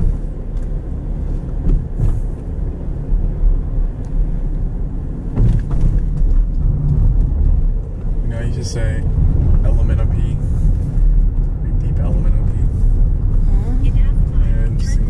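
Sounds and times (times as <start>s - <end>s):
car road and wind rumble: 0.0s - 15.0s.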